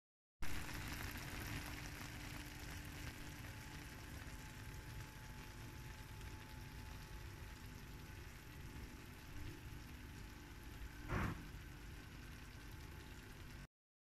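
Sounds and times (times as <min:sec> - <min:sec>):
food sizzling softly: 0:00.4 - 0:13.7
low hum: 0:01.9 - 0:13.7.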